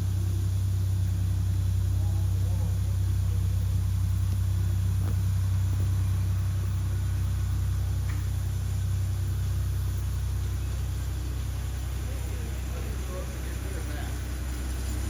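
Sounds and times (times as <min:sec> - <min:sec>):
steam locomotive rumble and hum: 0:00.0 - 0:15.0.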